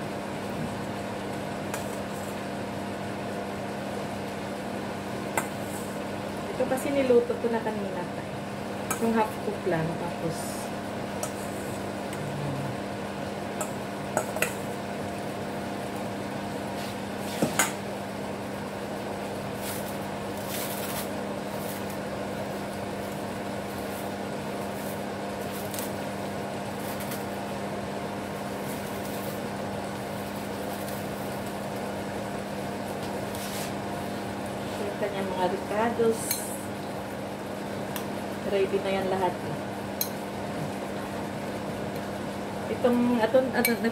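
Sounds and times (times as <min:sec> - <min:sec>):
food sizzling in frying pan: 0:00.0 - 0:39.0
electrical hum: 0:00.0 - 0:43.9.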